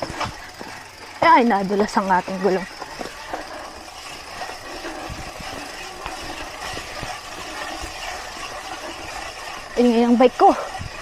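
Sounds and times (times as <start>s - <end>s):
bike rolling over rough trail: 0.0s - 11.0s
disc brake rotor rubbing: 0.0s - 11.0s.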